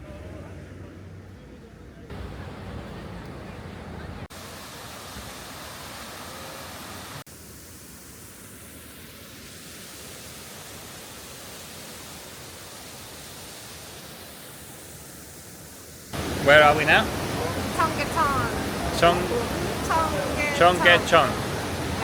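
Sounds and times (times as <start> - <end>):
stream water flowing: 2.1 - 22.0.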